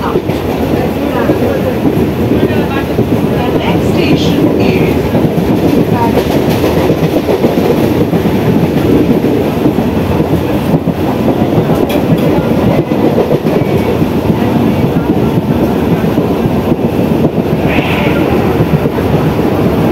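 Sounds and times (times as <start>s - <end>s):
train wheels rumbling on rails: 0.0s - 19.9s.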